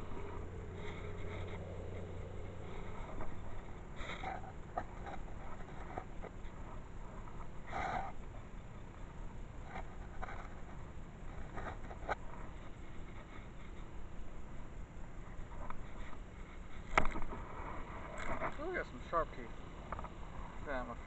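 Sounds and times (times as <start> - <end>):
grass rustling: 0.0 - 21.0.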